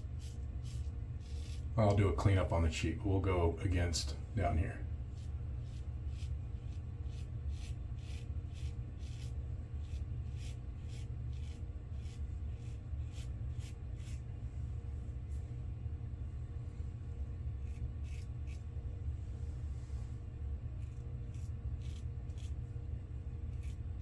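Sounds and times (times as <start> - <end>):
razor scraping stubble: 0.0 - 2.6, 3.2 - 14.4, 17.5 - 24.0
steady low hum: 0.0 - 24.0.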